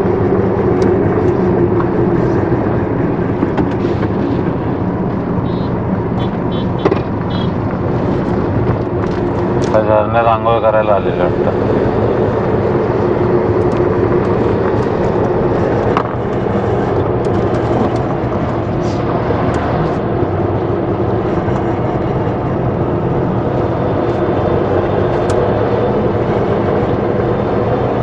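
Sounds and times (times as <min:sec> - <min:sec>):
vehicle engine and road hum: 0:00.0 - 0:28.0.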